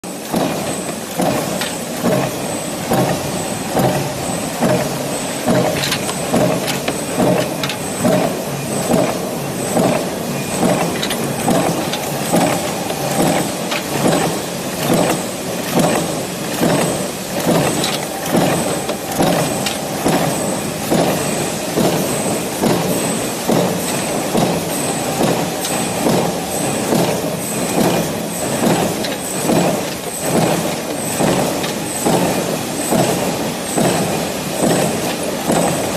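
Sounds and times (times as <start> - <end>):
factory machinery running: 0.0 - 35.9
power press stamping: 0.1 - 35.9.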